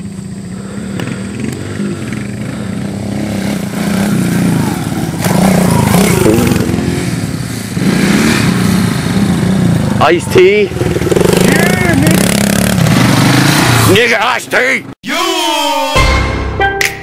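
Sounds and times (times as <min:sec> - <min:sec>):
dirt bike engine revving: 0:00.0 - 0:14.3.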